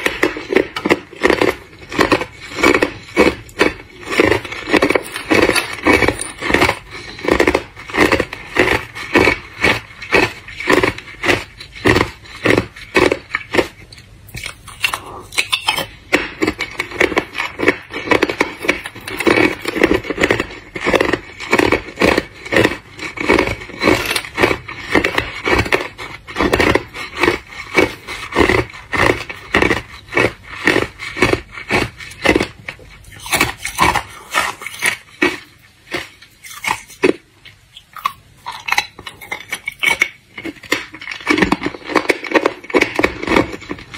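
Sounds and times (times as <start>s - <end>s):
ice crunching in mouth: 0.0s - 43.9s.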